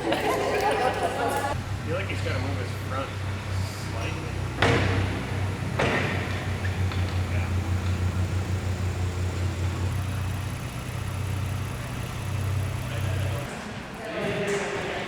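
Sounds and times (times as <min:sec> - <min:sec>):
car engine idling: 0:00.9 - 0:13.5.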